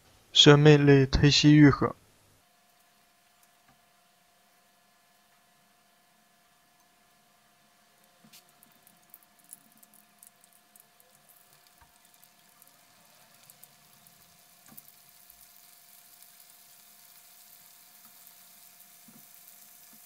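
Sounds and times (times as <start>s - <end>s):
fish frying in hot oil: 2.4s - 20.0s.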